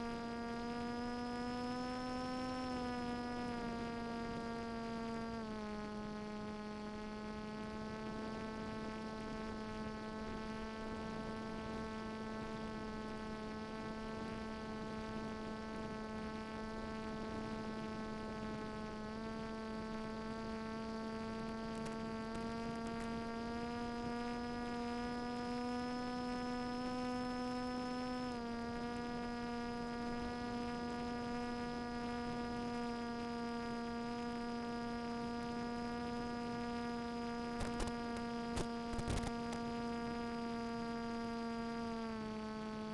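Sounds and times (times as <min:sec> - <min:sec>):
electric motor and propeller buzzing: 0:00.0 - 0:42.9.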